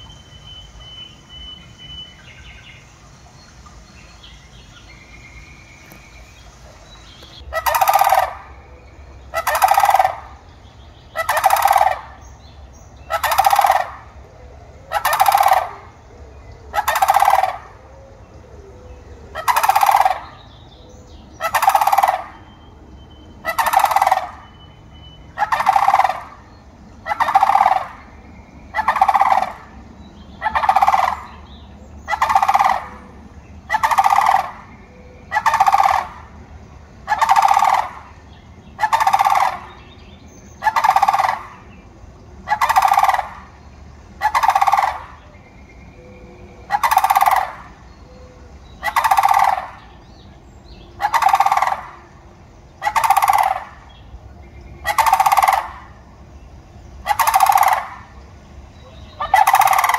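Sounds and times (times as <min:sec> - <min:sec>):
crane rattling call: 0:04.6 - 0:17.8, 0:18.6 - 0:59.9.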